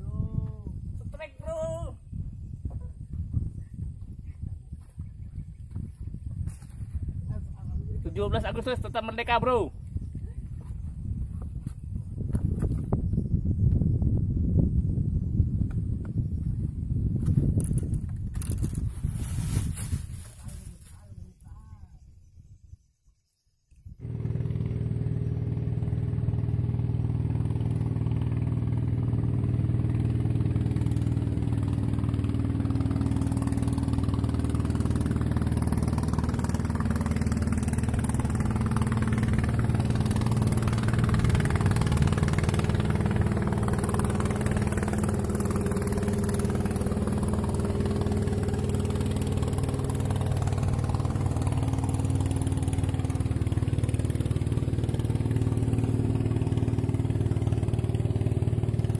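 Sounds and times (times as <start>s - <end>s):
motorboat engine running: 0.0s - 21.3s, 24.0s - 58.9s.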